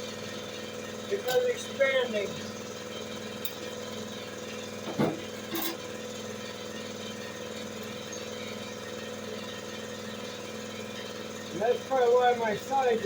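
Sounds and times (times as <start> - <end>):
engine-like machine hum: 0.0 - 13.0.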